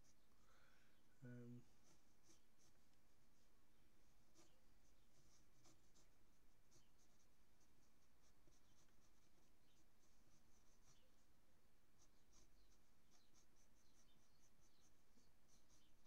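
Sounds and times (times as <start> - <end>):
pencil scratching on paper: 0.0 - 0.2, 1.6 - 16.0.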